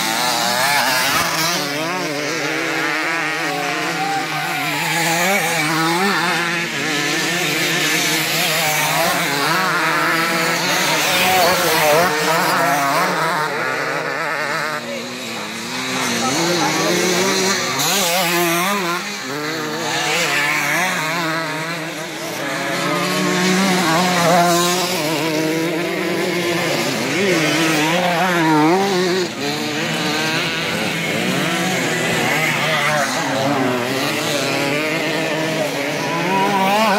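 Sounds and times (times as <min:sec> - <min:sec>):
motocross bikes revving: 0:00.0 - 0:36.9.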